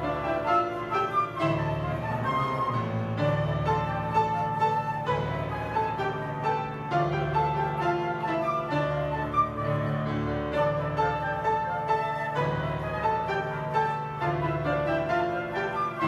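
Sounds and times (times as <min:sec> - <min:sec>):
grand piano: 0:00.0 - 0:16.0
recorder melody: 0:00.0 - 0:16.0.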